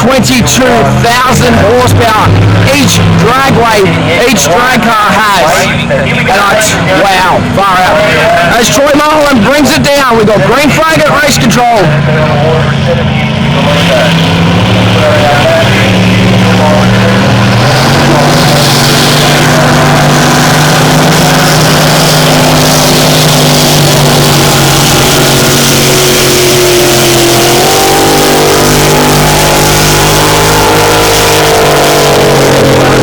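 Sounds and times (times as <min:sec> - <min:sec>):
powerboat engine running hard: 0:00.0 - 0:33.0.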